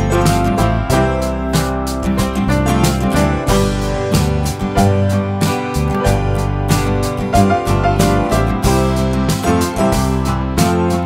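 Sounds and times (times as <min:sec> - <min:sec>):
acoustic guitar music with beat: 0:00.0 - 0:11.0.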